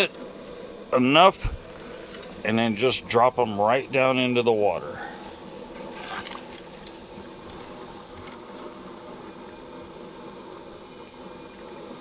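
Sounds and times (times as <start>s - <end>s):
gas burner hissing: 0.0s - 12.0s
high-pitched insect trill: 0.0s - 12.0s.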